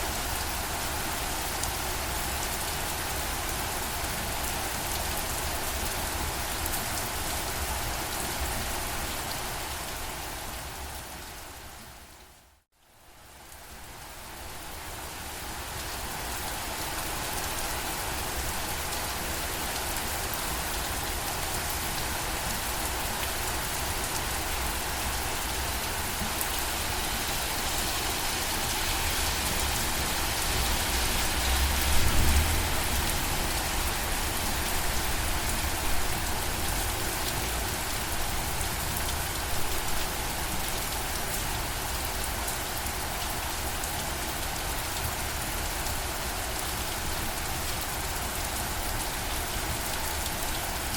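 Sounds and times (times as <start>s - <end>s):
steady rainfall: 0.0s - 50.9s.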